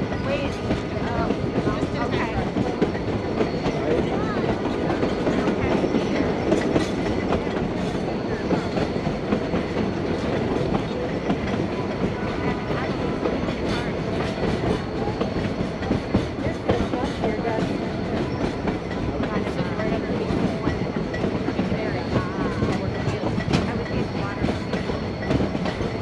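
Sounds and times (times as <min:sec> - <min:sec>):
train rumble: 0:00.0 - 0:26.0
train wheels clacking on rails: 0:00.0 - 0:26.0.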